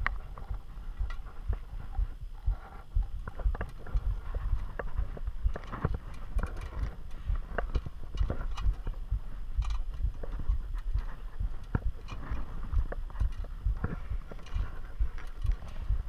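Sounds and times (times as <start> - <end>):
low dull thumps: 0.0 - 16.0.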